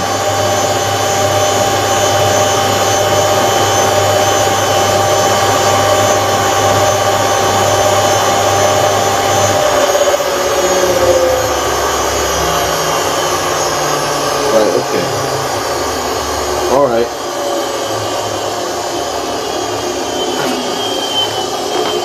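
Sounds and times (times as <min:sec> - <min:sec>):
low motor hum: 0:00.0 - 0:22.0
washing machine motor whine: 0:00.0 - 0:22.0.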